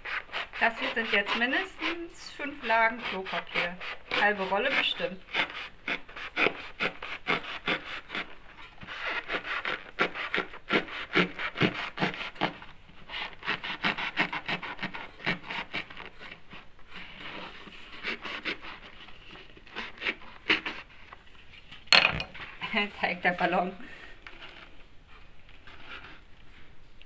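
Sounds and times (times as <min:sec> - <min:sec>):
blade sawing papier-mache: 0:00.0 - 0:21.2, 0:25.6 - 0:26.2.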